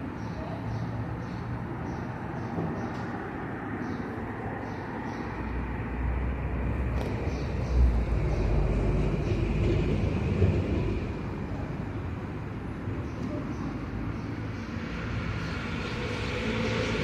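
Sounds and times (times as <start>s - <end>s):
road vehicle passing rumble: 0.0s - 17.0s.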